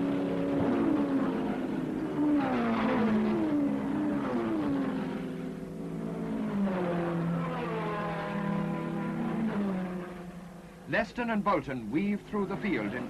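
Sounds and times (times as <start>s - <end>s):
racing cars passing at speed: 0.0s - 13.0s.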